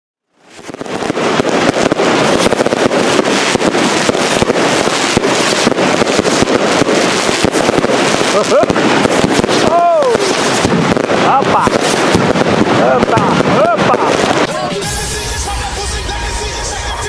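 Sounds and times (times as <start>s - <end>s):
fireworks crackling and banging: 0.3s - 17.0s.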